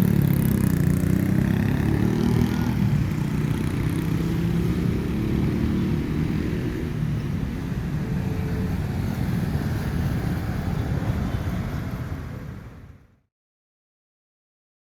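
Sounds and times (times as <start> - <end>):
road traffic noise: 0.0 - 13.3.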